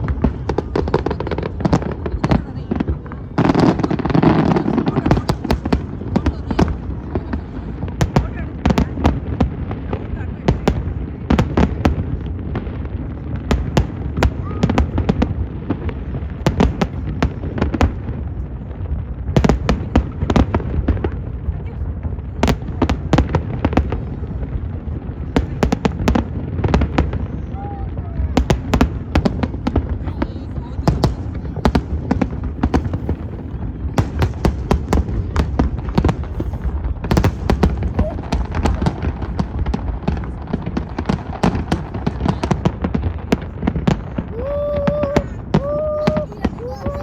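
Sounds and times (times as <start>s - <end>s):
firework cracks: 0.0s - 47.0s.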